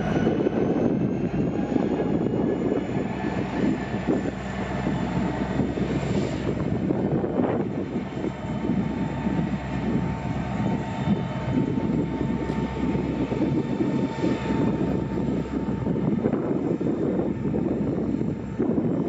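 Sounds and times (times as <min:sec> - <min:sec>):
diesel locomotive rumble: 0:00.0 - 0:19.0
thin steady whine: 0:00.0 - 0:19.0
wind buffeting microphone: 0:00.0 - 0:19.0.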